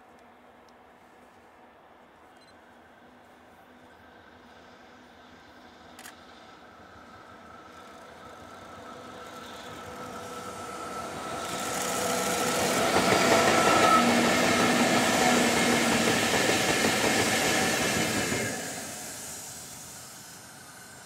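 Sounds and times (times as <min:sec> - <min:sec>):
electric locomotive whine: 0:02.3 - 0:21.0
wheels rumbling and rattling on rail: 0:03.0 - 0:21.0.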